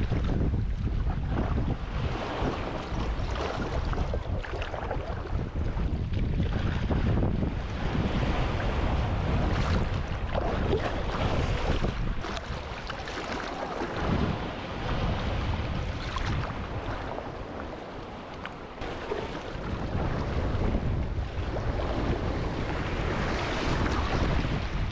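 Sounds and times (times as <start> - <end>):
ocean surf washing: 0.0 - 24.9
wind rumble on microphone: 0.0 - 24.9.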